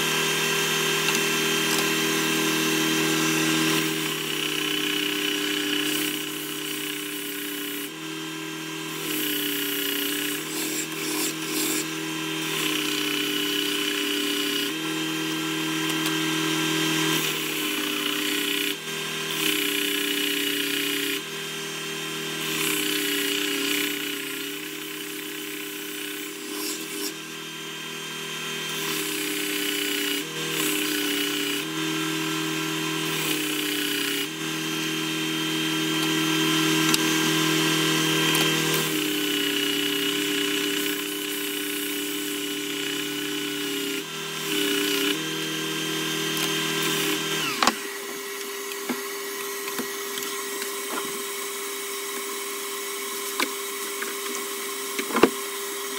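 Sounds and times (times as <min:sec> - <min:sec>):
dust extractor running: 0:00.0 - 0:55.9
sander humming on wood: 0:00.0 - 0:55.9.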